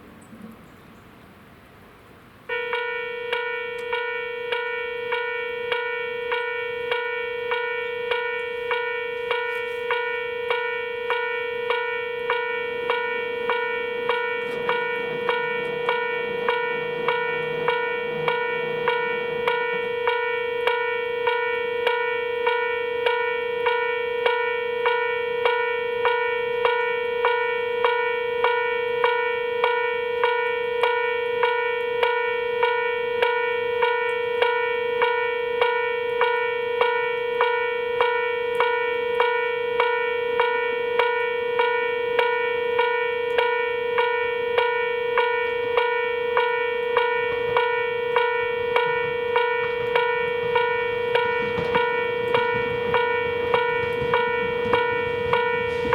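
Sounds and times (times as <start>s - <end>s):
level crossing warning bell: 2.5s - 55.9s.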